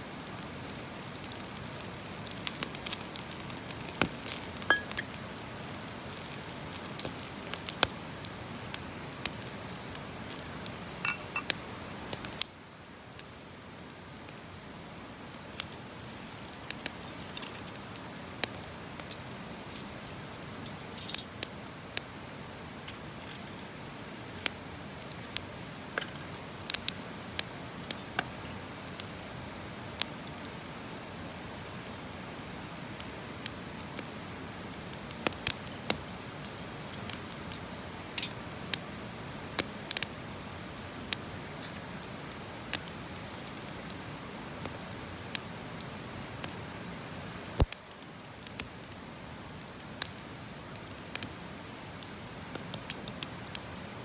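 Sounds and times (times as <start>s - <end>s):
campfire crackling and popping: 0.0s - 54.0s
steady hiss: 0.0s - 54.0s.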